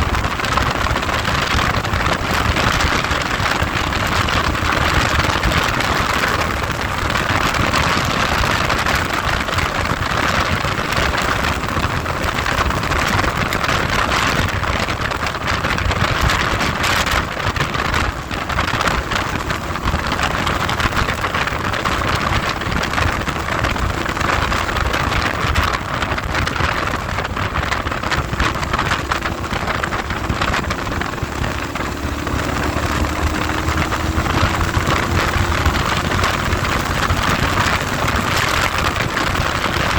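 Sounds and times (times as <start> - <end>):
vehicle engine running: 0.0 - 39.9
wind buffeting microphone: 0.0 - 39.9.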